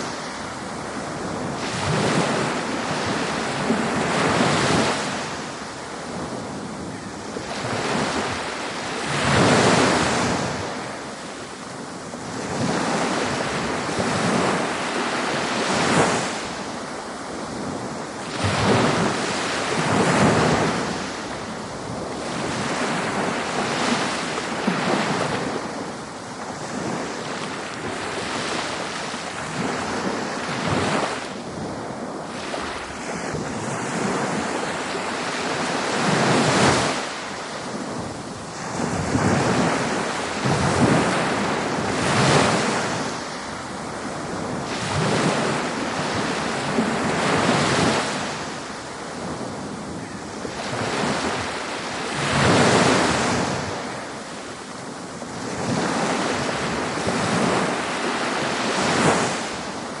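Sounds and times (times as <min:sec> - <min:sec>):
ocean waves breaking on beach: 0:00.0 - 1:00.0.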